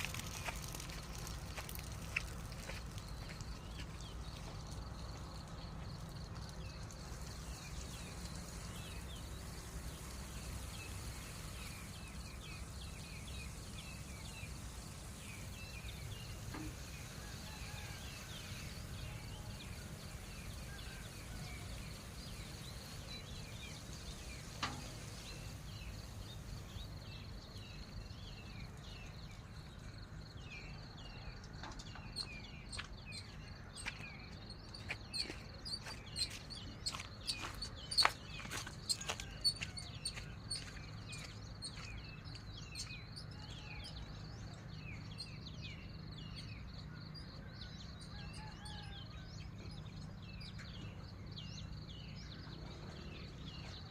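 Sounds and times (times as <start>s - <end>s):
bird chirps: 6.6s - 53.9s.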